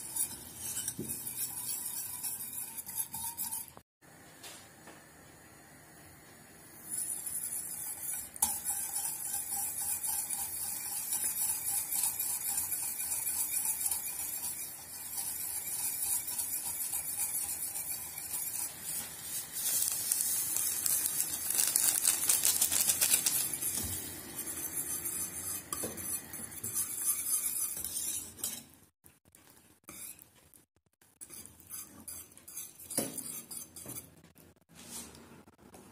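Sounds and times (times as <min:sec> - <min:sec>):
whisk scraping a metal pot: 0:00.0 - 0:03.8, 0:06.8 - 0:28.8, 0:29.8 - 0:30.3, 0:31.2 - 0:34.2.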